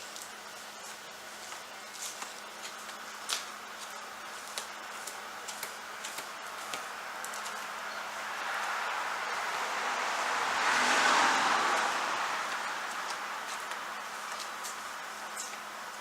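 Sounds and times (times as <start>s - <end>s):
steady low hum: 0.0s - 10.6s, 11.5s - 16.0s.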